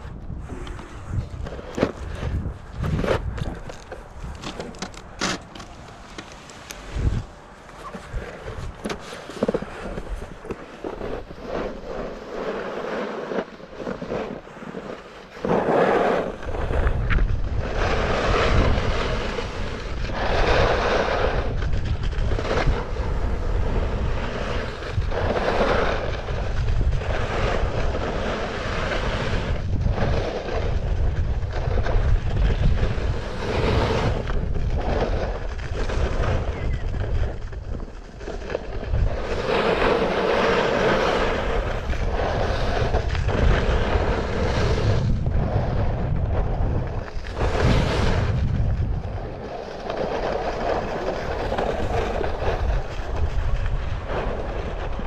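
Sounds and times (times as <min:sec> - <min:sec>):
snowskate scraping on snow: 0:00.0 - 0:55.0
wind rumble on microphone: 0:00.0 - 0:55.0.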